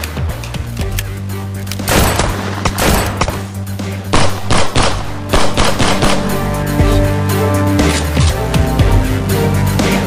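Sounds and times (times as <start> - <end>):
film score music with low notes: 0.0 - 10.0.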